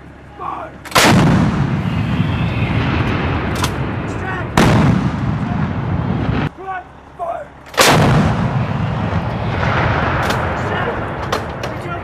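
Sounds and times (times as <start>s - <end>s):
howitzer blasts with rolling rumble: 0.0s - 12.0s.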